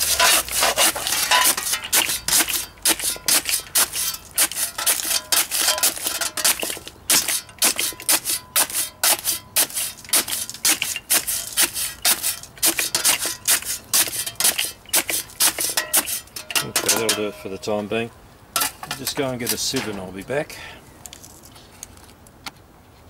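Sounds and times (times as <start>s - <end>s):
spade crunching charcoal in bucket: 0.0s - 18.0s, 18.6s - 20.4s.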